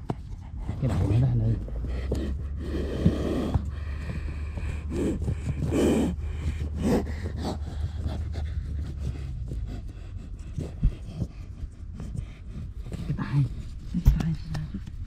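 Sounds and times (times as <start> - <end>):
steady low rumble: 0.0 - 15.0
man breathing hard: 1.8 - 13.9.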